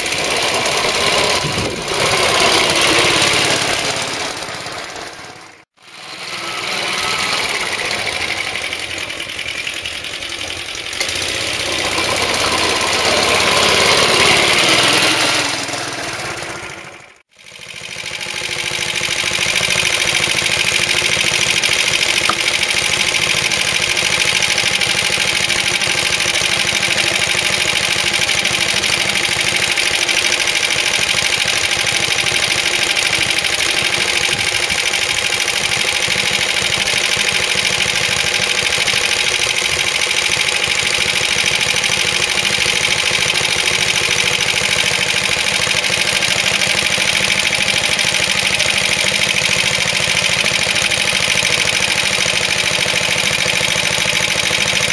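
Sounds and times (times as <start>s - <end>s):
lawnmower engine running: 0.0s - 54.9s.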